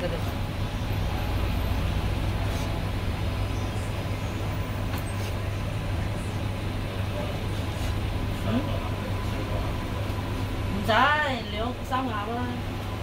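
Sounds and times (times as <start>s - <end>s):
traffic and machinery rumble: 0.0s - 13.0s.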